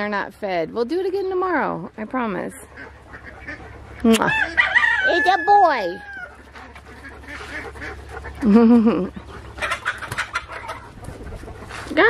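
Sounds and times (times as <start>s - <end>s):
dog panting: 1.2s - 12.0s.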